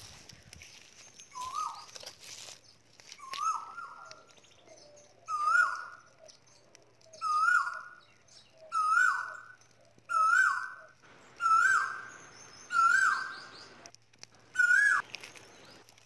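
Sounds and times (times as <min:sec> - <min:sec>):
bird calling: 0:00.9 - 0:15.9.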